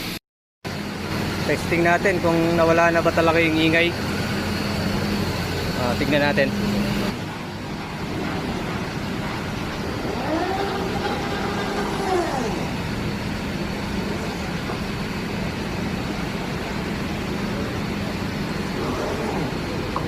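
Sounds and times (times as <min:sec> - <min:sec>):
machine drive whine: 0:00.0 - 0:20.0
steady low machine hum: 0:00.7 - 0:20.0.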